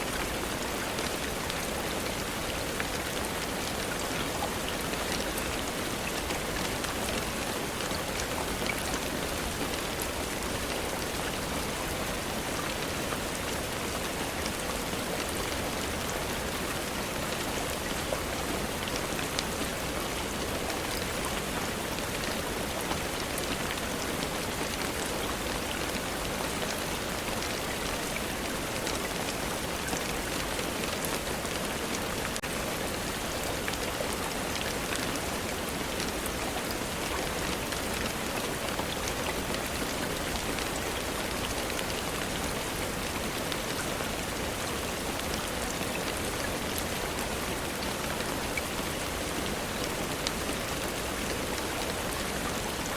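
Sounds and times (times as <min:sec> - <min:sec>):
steady rain hissing: 0:00.0 - 0:52.9.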